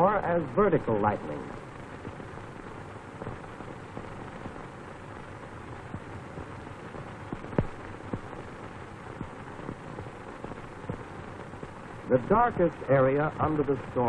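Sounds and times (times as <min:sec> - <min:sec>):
film soundtrack hiss and crackle: 0:00.0 - 0:14.0.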